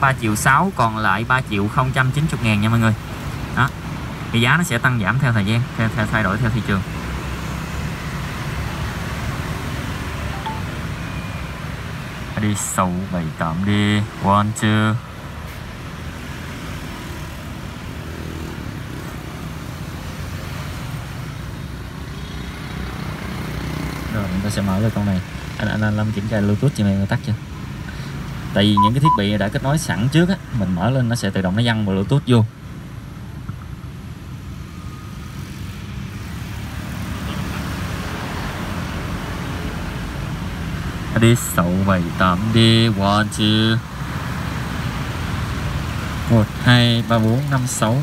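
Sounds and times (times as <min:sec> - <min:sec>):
road traffic rumble: 0:00.0 - 0:48.0.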